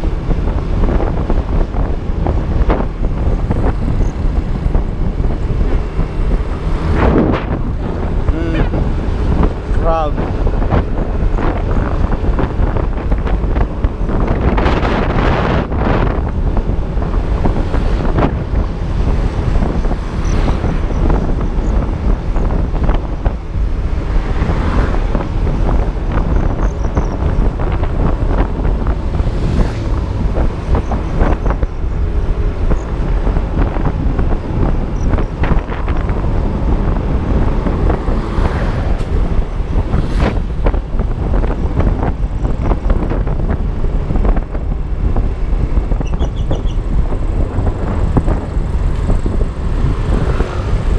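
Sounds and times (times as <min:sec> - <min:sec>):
road noise: 0:00.0 - 0:50.9
wind buffeting microphone: 0:00.0 - 0:50.9.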